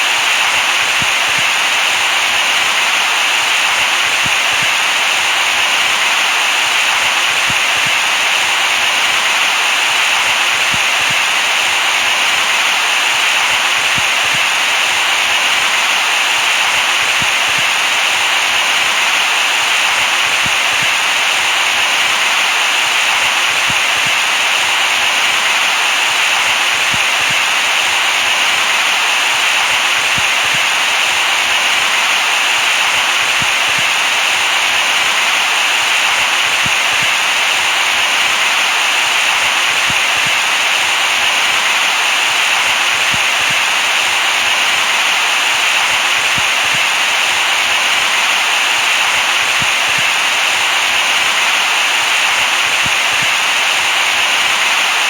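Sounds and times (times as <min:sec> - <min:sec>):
steady synthetic hiss: 0:00.0 - 0:55.0.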